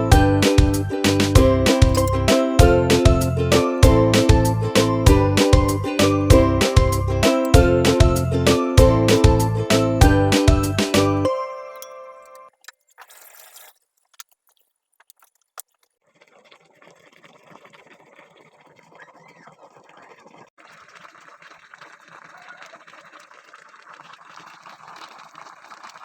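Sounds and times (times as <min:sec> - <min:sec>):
pot bubbling on the boil: 0:01.1 - 0:10.2, 0:12.8 - 0:26.0.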